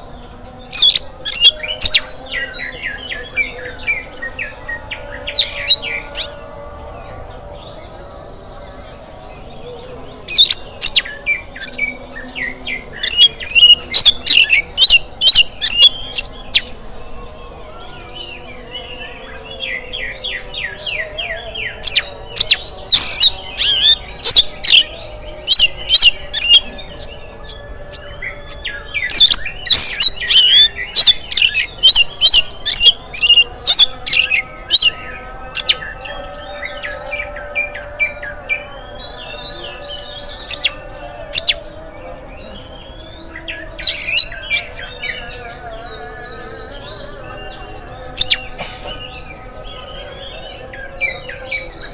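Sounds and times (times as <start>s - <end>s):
magpie-robin singing: 0.0s - 51.9s.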